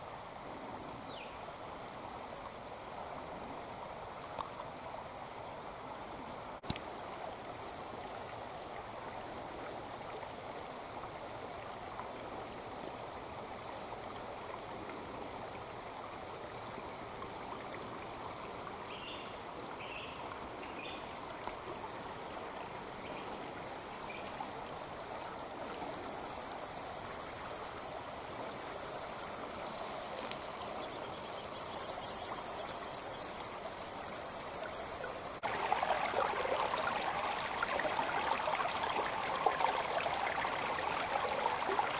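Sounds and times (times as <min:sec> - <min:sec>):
creek water trickling: 0:00.0 - 0:41.9.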